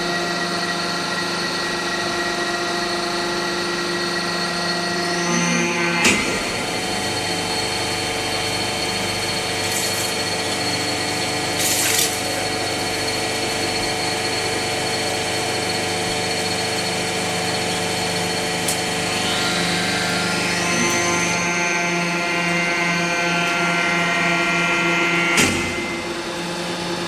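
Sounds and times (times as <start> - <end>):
machine motor drone: 0.0 - 27.0.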